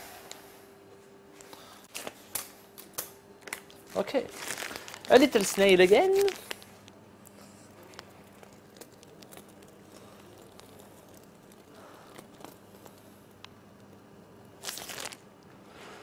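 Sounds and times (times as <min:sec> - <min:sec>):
steady low hum: 0:00.0 - 0:16.0
soft squishing from a piping bag: 0:01.4 - 0:15.9.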